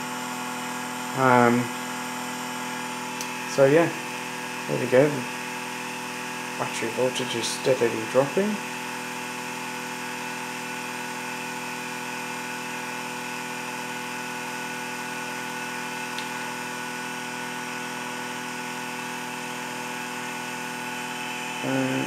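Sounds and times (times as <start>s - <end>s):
pulse motor humming: 0.0s - 22.0s.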